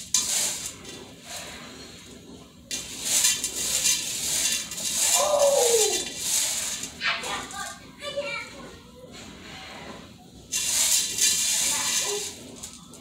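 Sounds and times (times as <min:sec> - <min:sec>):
dried beans rattling in steel pot: 0:00.0 - 0:09.4, 0:10.0 - 0:13.0.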